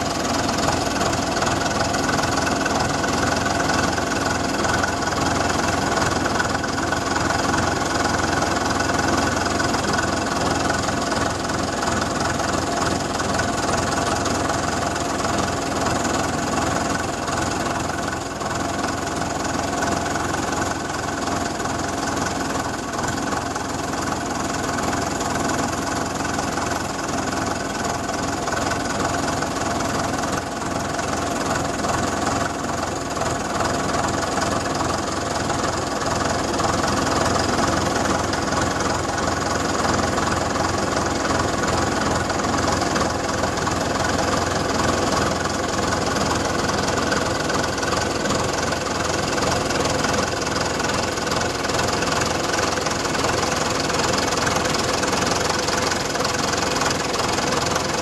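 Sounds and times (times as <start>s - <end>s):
diesel tractor engine under load: 0.0s - 58.0s.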